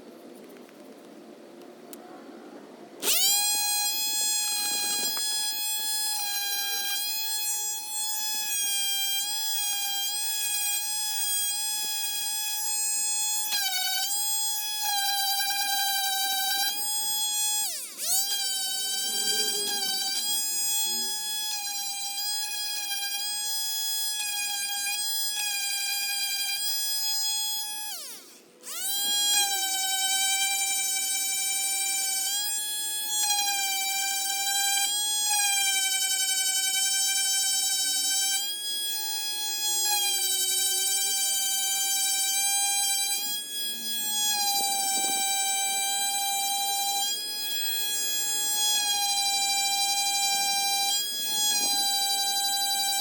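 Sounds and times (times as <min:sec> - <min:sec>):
electric sander whining: 0:03.0 - 0:53.0.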